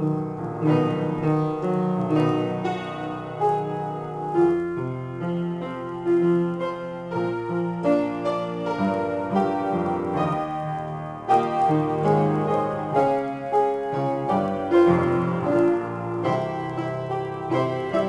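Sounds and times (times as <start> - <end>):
solo piano improvisation: 0.0 - 18.0.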